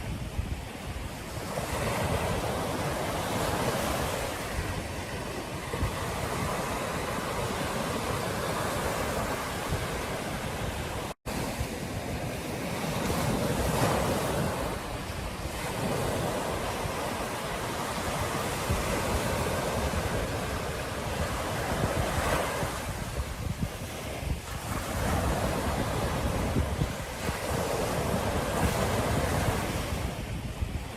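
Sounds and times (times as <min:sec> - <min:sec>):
surf washing onto beach: 0:00.0 - 0:30.9
wind buffeting microphone: 0:00.0 - 0:30.9.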